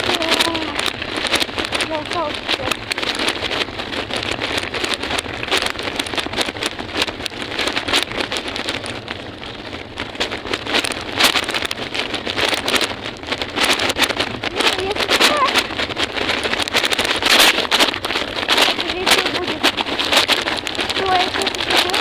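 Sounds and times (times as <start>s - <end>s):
small wheels rolling on pavement: 0.0s - 22.0s
wind buffeting microphone: 0.0s - 22.0s.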